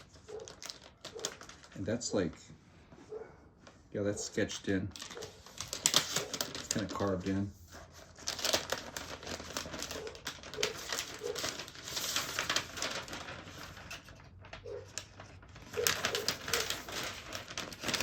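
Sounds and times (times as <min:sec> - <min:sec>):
paper packaging crinkling: 0:00.0 - 0:02.4, 0:03.6 - 0:18.0.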